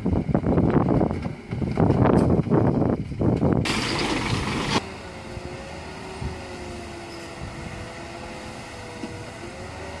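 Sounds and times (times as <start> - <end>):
heavy truck engine grinding uphill: 0.0 - 10.0.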